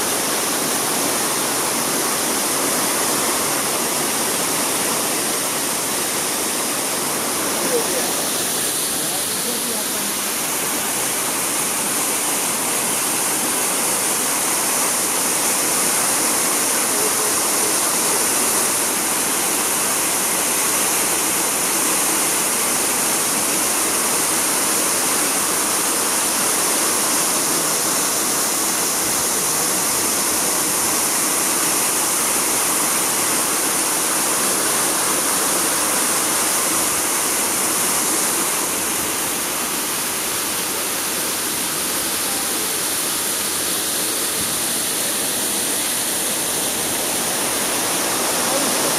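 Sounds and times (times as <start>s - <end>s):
waterfall splashing into pond: 0.0s - 48.9s.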